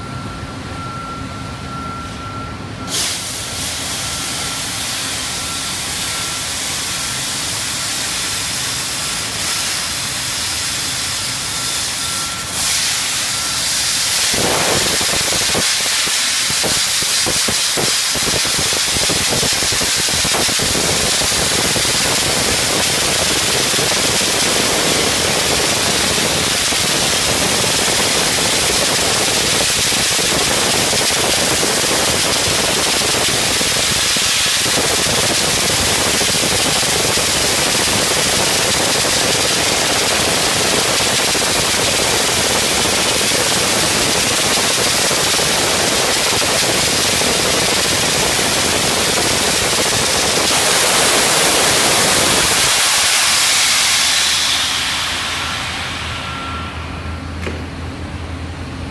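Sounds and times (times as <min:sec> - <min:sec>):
abrasive blast nozzle hissing: 0:02.9 - 0:05.1, 0:05.8 - 0:56.7.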